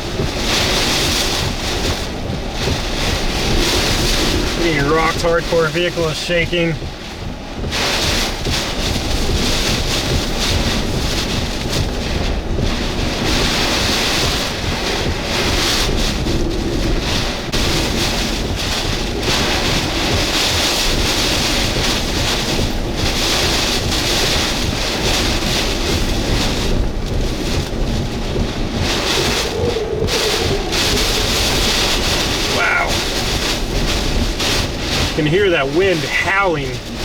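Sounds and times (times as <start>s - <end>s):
strong wind buffeting vehicle: 0.0s - 37.0s.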